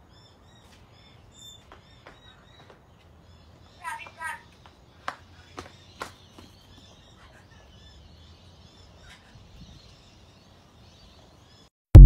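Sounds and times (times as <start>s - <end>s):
faint bird chirping: 0.1s - 11.7s.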